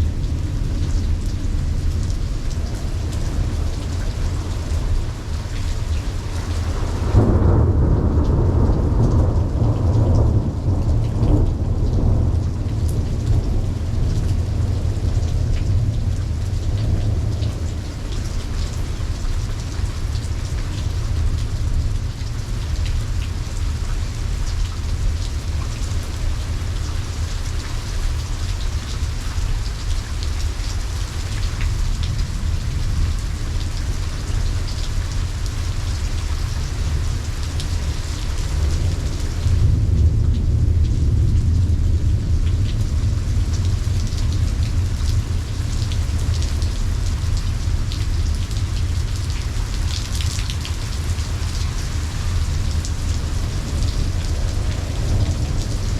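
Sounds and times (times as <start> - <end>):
low rumble of thunder: 0.0 - 55.9
steady rain falling: 0.0 - 55.9.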